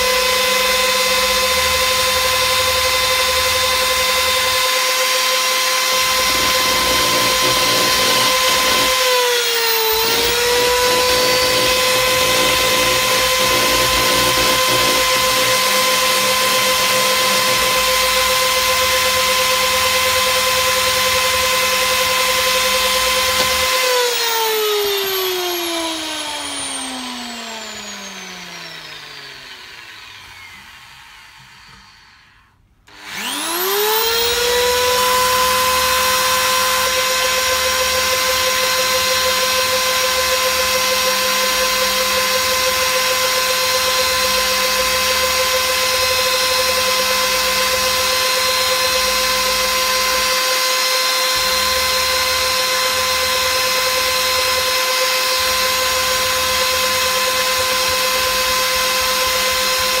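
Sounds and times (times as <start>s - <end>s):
electric drill whining: 0.0s - 60.0s.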